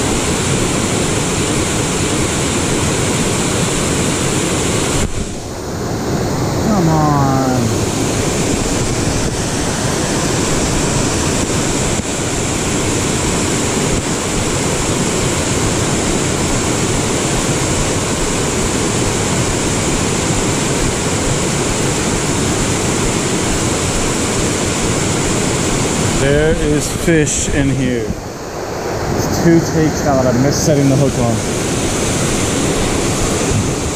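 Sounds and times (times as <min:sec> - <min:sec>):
waterfall rushing into pool: 0:00.0 - 0:33.9.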